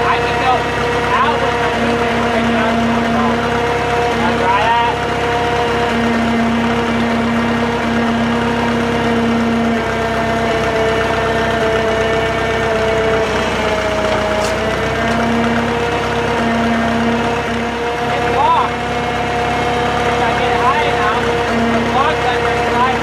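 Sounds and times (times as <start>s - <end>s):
crane engine humming: 0.0s - 23.0s.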